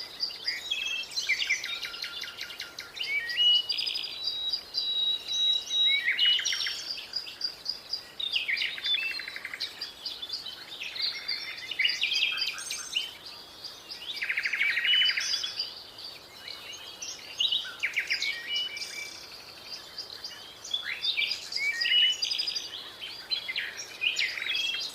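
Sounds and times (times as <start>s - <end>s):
faint steady hiss: 0.0s - 24.9s
songbirds chirping and trilling: 0.0s - 24.9s.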